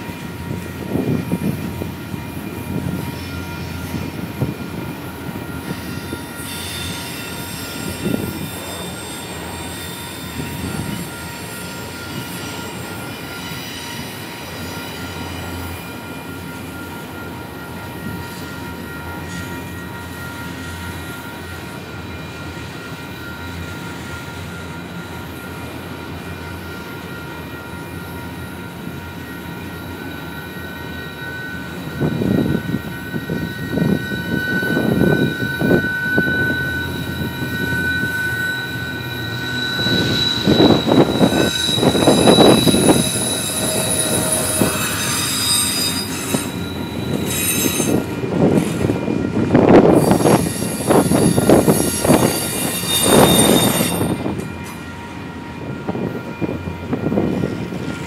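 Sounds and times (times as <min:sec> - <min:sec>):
train wheels rumbling on rails: 0:00.0 - 0:58.0
wheel squeal: 0:05.0 - 0:49.2, 0:49.8 - 0:55.0.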